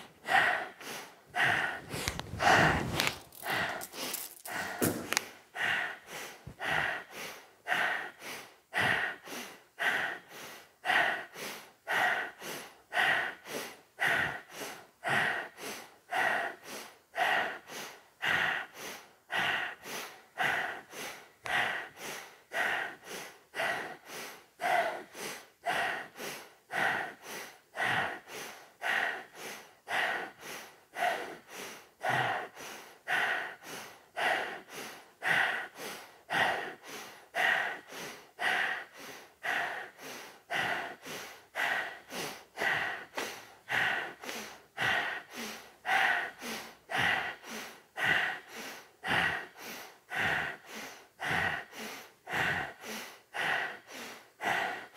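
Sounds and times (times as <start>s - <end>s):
rapid forceful nasal breathing: 0.0s - 54.9s.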